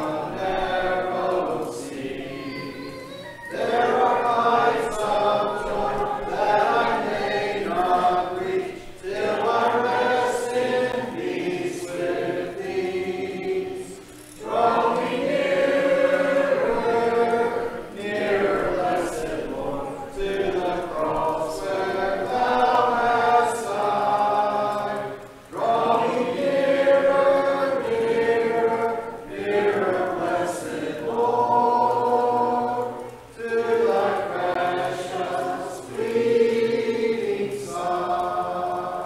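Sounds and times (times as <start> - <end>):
congregation singing a hymn: 0.0 - 39.0.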